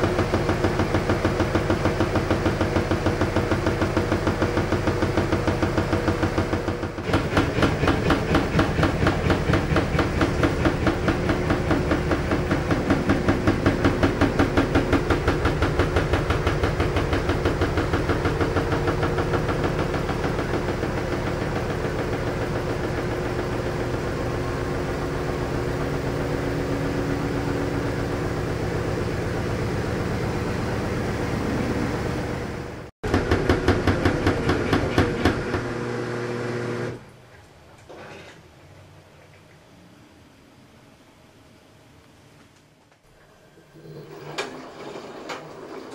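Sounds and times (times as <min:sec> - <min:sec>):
washing machine vibrating hum: 0:00.0 - 0:37.1, 0:43.1 - 0:45.9.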